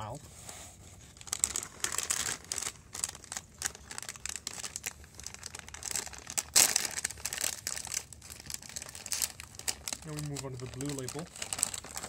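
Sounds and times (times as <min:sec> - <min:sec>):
plastic snack bag crinkling: 0:01.1 - 0:12.0.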